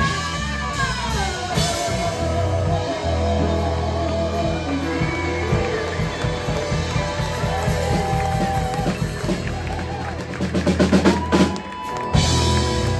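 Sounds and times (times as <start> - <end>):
drum kit: 0.0 - 12.9
electric guitar: 0.0 - 12.9
keyboard: 0.0 - 12.9.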